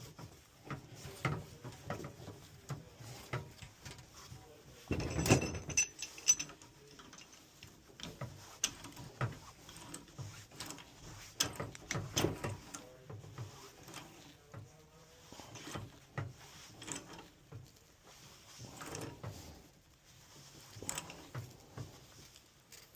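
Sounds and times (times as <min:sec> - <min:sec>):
tools and metal fittings clinking: 0:00.1 - 0:19.7, 0:20.4 - 0:22.9.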